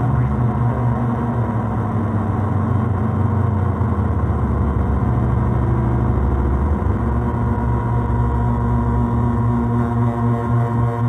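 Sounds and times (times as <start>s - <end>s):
electronic drone from speaker: 0.0s - 11.0s.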